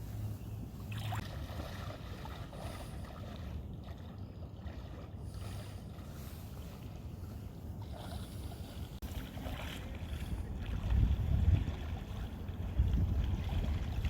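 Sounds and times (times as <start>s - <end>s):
wind rumble on microphone: 0.0s - 14.0s
kayak paddle splashing in water: 0.8s - 6.4s, 7.8s - 14.0s.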